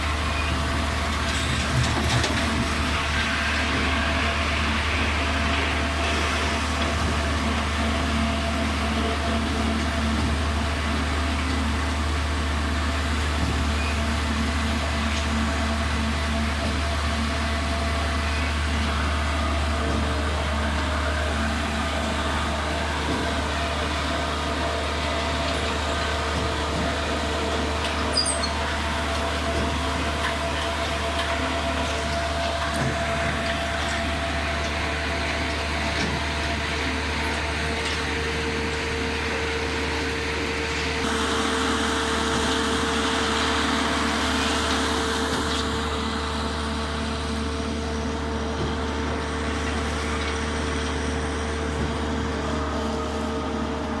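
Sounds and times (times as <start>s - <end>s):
pump truck mechanical hum: 0.0s - 54.0s.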